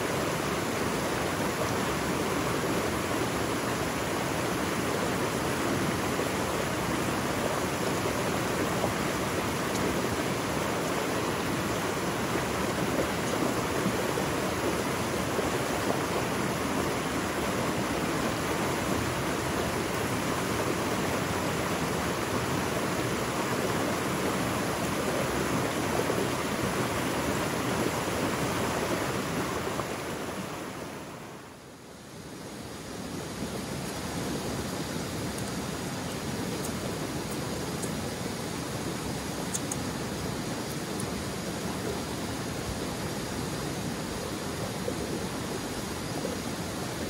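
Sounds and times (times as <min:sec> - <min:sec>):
stream flowing: 0:00.0 - 0:47.0.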